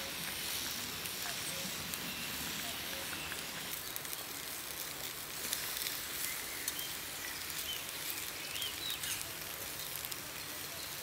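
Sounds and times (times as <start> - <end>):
peppers sizzling and crackling: 0.0 - 11.0.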